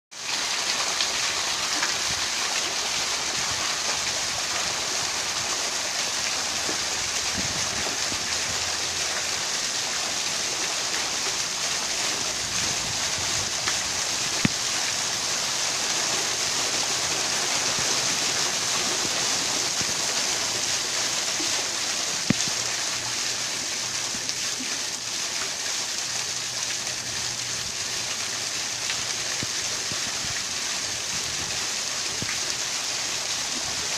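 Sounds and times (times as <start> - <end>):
small waterfall splashing: 0.1 - 33.9.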